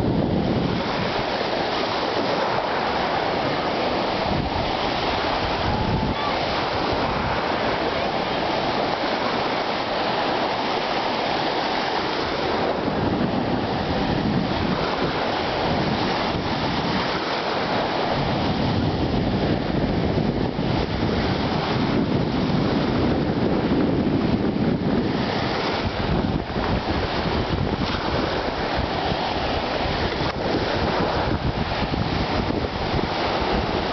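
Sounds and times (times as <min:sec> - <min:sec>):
small waves breaking on shore: 0:00.0 - 0:33.9
wind rumbling on microphone: 0:00.0 - 0:33.9.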